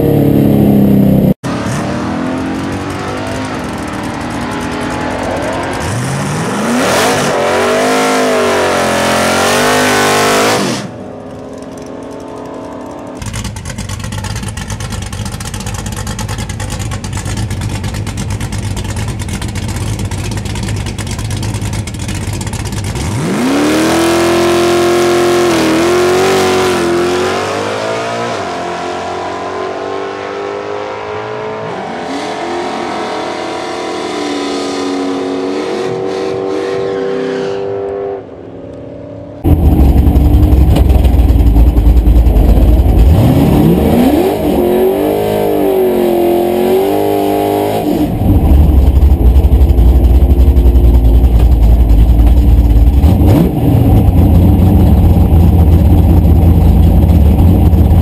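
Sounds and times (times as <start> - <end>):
drag racing car engine revving: 0.0 - 38.4, 39.4 - 58.0.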